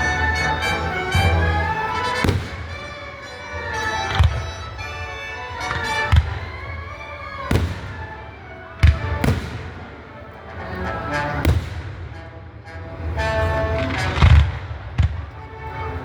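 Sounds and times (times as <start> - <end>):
fireworks bangs: 0.0 - 12.3, 13.4 - 15.4
music: 0.0 - 16.0.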